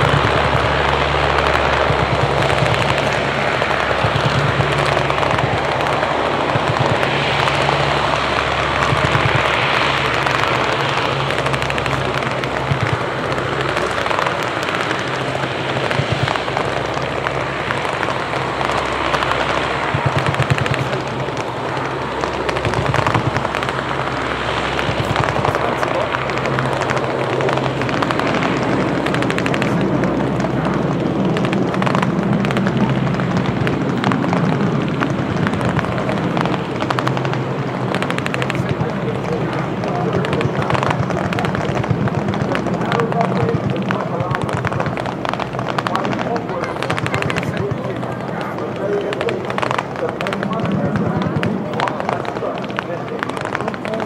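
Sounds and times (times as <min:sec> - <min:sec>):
propeller aircraft engines droning: 0:00.0 - 0:54.0.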